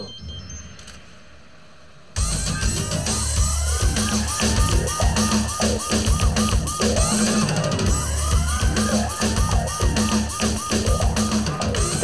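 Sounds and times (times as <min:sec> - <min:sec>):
news sting music with drums: 0:02.2 - 0:12.0.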